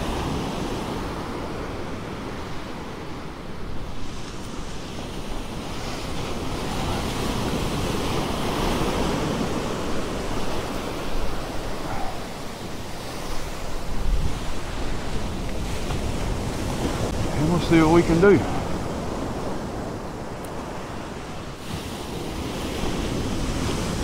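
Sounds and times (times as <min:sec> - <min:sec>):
ocean surf breaking: 0:00.0 - 0:24.0
wind on microphone: 0:00.0 - 0:24.0.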